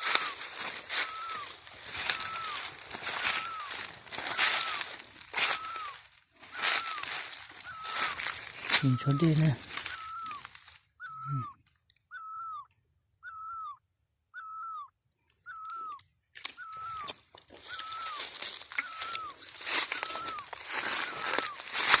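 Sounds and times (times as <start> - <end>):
bird-like rising and falling call: 0.0 - 13.8, 14.4 - 16.0, 16.6 - 22.0.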